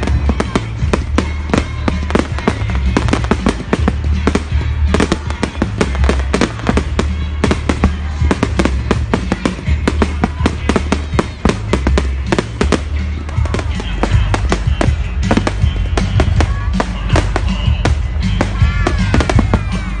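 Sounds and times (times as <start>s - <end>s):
fireworks bangs and crackles: 0.0s - 20.0s
music with deep bass: 0.0s - 20.0s.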